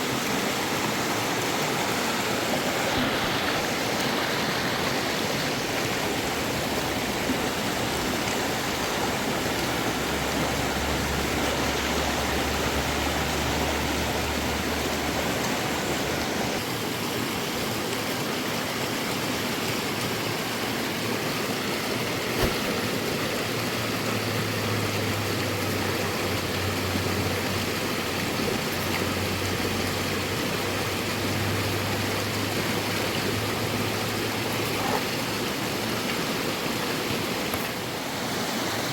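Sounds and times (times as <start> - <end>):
fast river rushing: 0.0 - 38.9.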